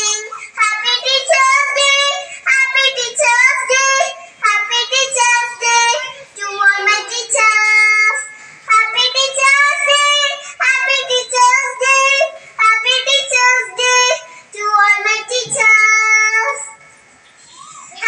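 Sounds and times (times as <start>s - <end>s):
child singing: 0.0s - 16.8s.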